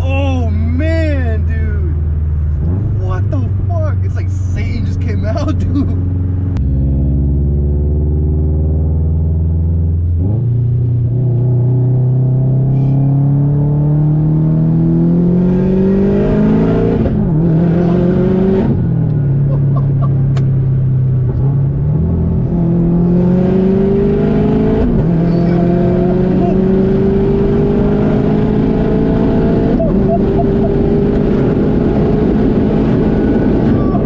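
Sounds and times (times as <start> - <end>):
car engine accelerating hard: 1.9 - 34.0.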